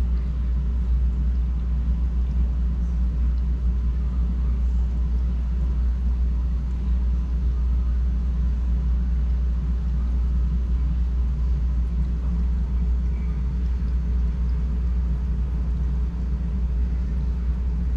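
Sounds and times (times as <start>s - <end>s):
air lines bubbling: 0.0s - 17.9s
aquarium equipment humming: 0.0s - 17.9s.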